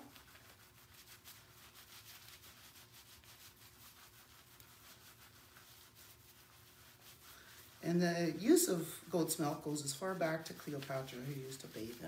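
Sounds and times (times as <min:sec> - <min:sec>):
rubbing soapy wool in gloved hands: 0:00.0 - 0:12.0.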